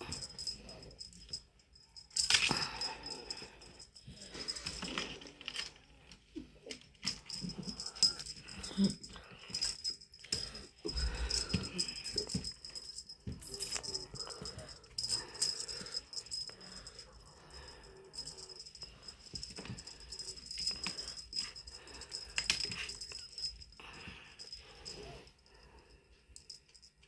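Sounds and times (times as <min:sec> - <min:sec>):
small bell jingling: 0:00.0 - 0:05.8, 0:06.6 - 0:27.0.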